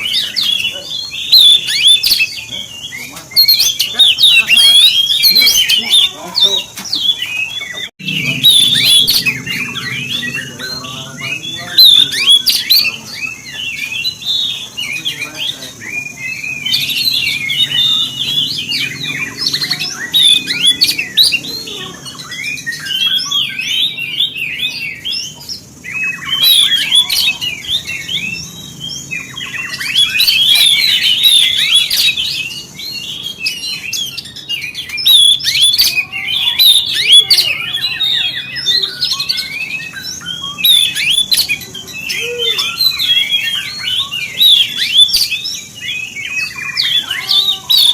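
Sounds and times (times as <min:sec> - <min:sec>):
bird singing rapid chirps: 0:00.0 - 0:47.9.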